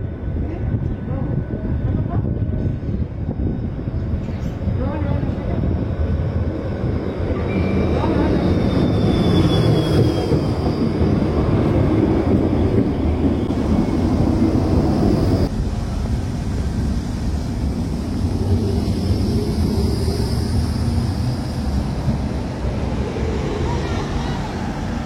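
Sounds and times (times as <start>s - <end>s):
tram rumbling along track: 0.0s - 25.0s.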